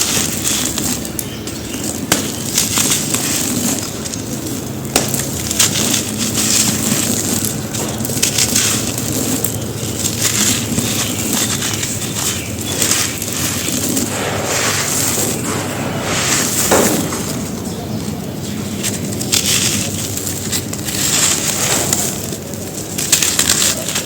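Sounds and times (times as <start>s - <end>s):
dry dirt crunching and crackling: 0.0s - 24.0s.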